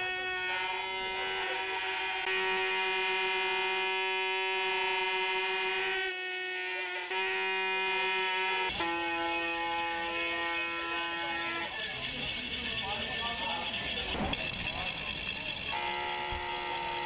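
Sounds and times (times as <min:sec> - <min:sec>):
plastic horns droning: 0:00.0 - 0:14.2, 0:14.9 - 0:17.0.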